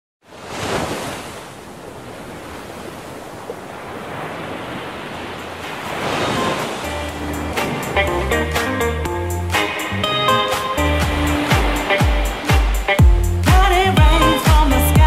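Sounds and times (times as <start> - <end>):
waves washing in: 0.2 - 15.0.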